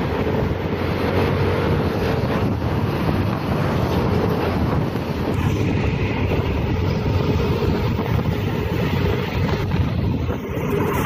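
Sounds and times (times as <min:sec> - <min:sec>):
road noise: 0:00.0 - 0:11.0
wind rushing over microphone: 0:00.0 - 0:11.0.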